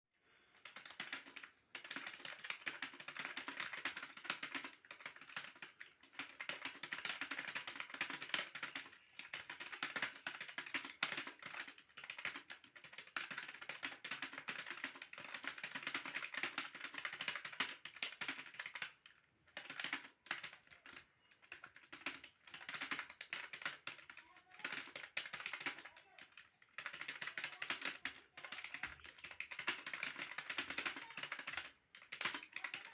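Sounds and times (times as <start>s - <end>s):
fast typing on keyboard: 0.5s - 32.9s.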